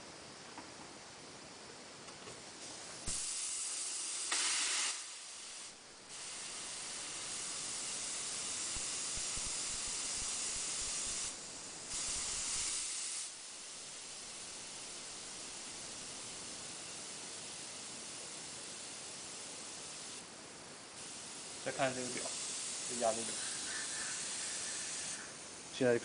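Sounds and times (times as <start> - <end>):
compressed air hissing into tyre: 2.6 - 25.9.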